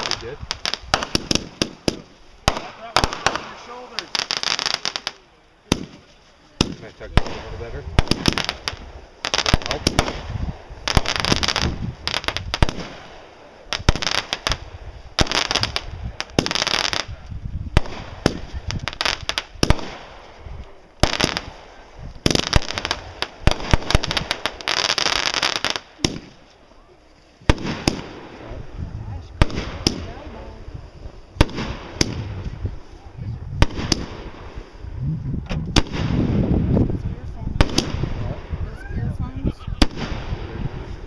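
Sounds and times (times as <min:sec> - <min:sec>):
fireworks bangs: 0:00.0 - 0:26.6, 0:27.4 - 0:38.8, 0:39.6 - 0:41.0
fireworks crackling: 0:00.0 - 0:41.0.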